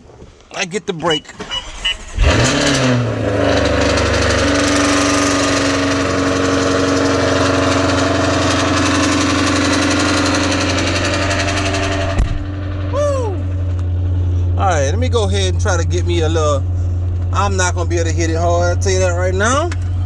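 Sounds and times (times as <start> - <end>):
car engine starting and idling: 0.0 - 20.0.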